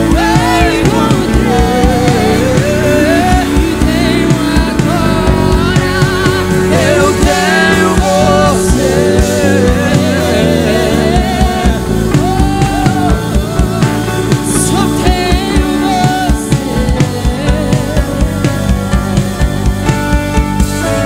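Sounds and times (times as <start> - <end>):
voices singing: 0.0 - 19.9
drum kit steady beat: 0.0 - 21.0
electric guitar: 0.0 - 21.0
keyboard: 0.0 - 21.0.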